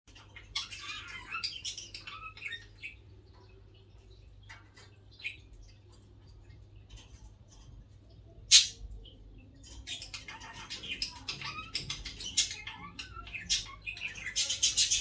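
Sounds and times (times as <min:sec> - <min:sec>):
budgerigars chirping and chattering: 0:00.1 - 0:15.0.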